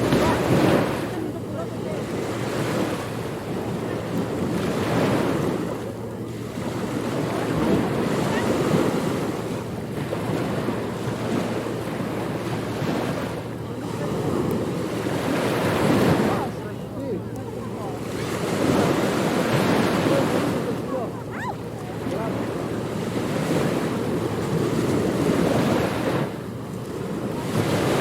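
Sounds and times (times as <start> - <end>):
surf washing on beach: 0.0 - 28.0.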